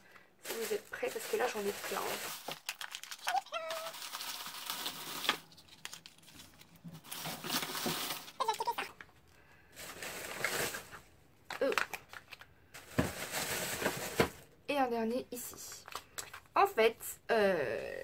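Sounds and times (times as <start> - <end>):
plastic pouches crinkling: 0.1 - 14.5, 15.7 - 16.6.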